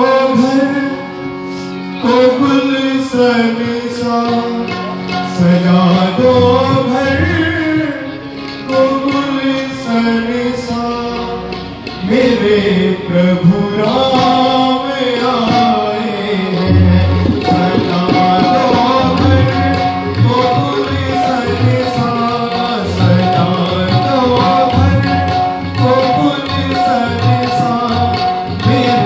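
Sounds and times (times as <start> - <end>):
harmonium: 0.0 - 29.0
man singing: 0.0 - 29.0
tabla: 0.0 - 29.0.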